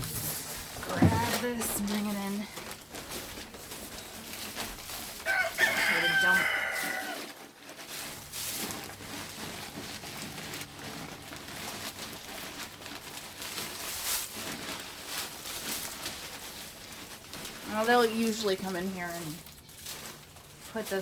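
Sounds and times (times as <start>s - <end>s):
dry rustling of wood shavings: 0.0s - 21.0s.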